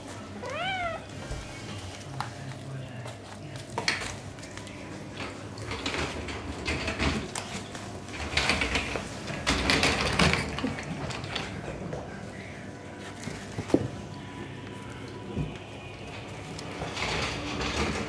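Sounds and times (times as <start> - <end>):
kittens scampering on wooden floor: 0.0 - 18.0.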